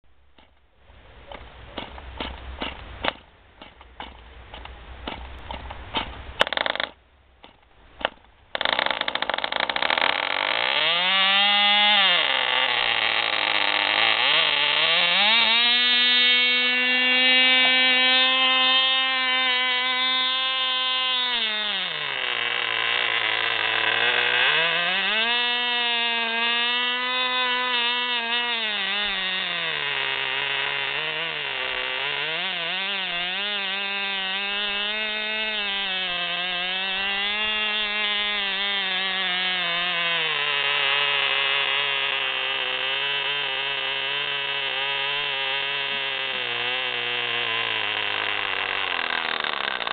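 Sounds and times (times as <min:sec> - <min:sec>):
model plane engine buzzing: 0:08.5 - 0:49.9.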